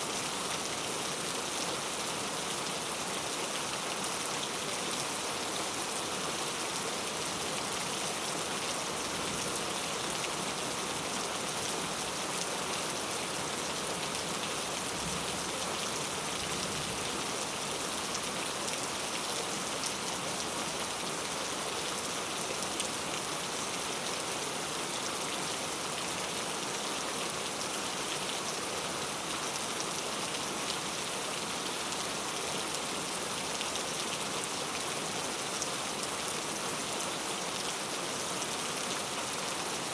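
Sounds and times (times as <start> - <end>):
rain pattering on surface: 0.2 - 39.9.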